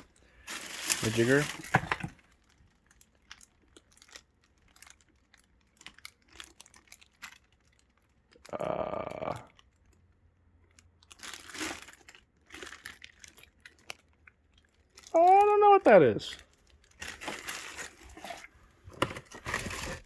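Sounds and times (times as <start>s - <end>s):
packaging rustle: 0.0s - 8.4s, 10.7s - 20.0s
packaging crinkles and clicks: 0.0s - 8.5s, 9.5s - 20.0s
packaging tearing: 0.0s - 9.6s, 11.0s - 20.0s.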